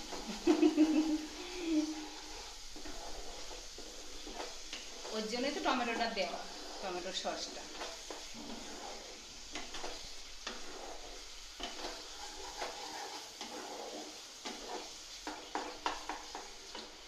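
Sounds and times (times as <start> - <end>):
paste sizzling: 0.0 - 17.0
spatula scraping spice paste: 0.0 - 17.0.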